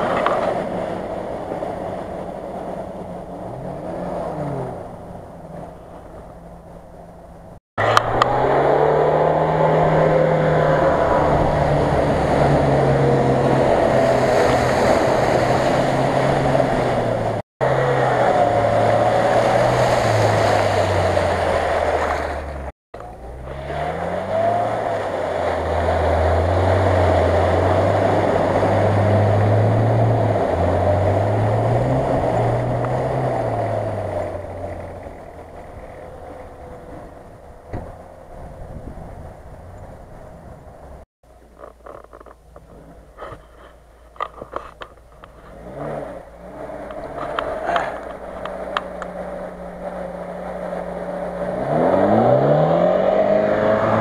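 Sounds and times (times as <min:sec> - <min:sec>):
engines pulling under load: 0:00.0 - 0:54.0
wheels splashing water: 0:00.0 - 0:54.0.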